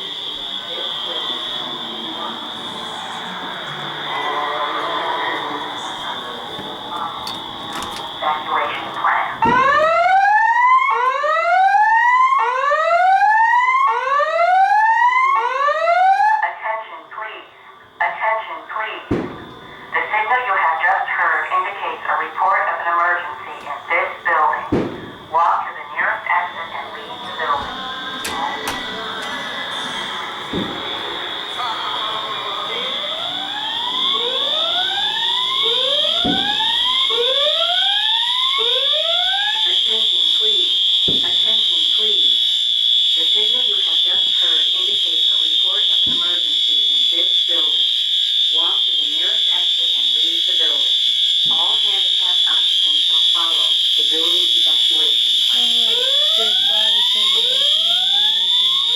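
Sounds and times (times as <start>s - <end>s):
fire alarm whoop tone: 0.0s - 58.9s.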